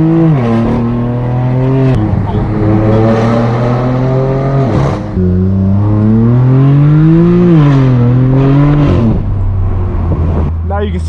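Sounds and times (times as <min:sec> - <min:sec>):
loud car engine accelerating: 0:00.0 - 0:10.7.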